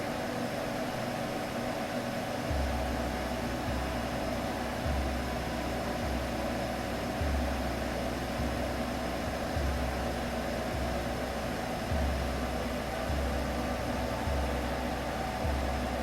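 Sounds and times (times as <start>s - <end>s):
pulsing low hum: 0.0s - 16.0s
steady hiss: 0.0s - 16.0s.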